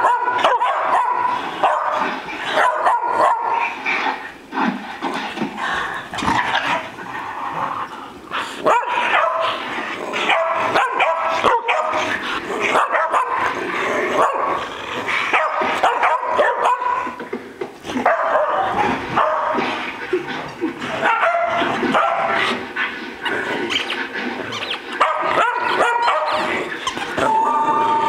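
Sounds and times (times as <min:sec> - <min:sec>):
dogs barking and yipping: 0:00.0 - 0:04.4, 0:08.6 - 0:17.3, 0:17.9 - 0:28.0.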